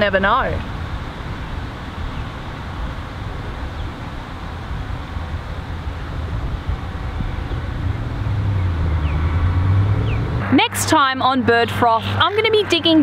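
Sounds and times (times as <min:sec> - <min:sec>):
road traffic rumble: 0:00.0 - 0:13.0
wind buffeting microphone: 0:00.0 - 0:13.0
low engine-like hum: 0:01.7 - 0:13.0.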